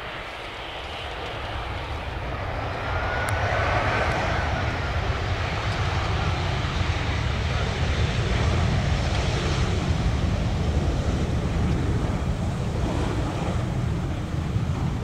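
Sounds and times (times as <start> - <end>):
jet engines of arriving plane: 0.0 - 15.0.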